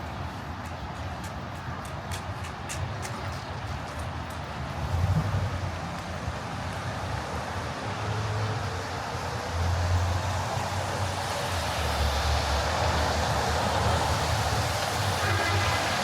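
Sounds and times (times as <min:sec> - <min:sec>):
tyres hissing on wet road: 0:01.8 - 0:16.0.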